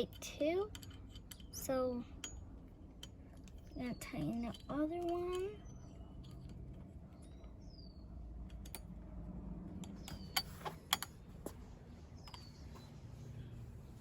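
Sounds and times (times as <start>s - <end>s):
low steady background hum: 0.0s - 14.0s.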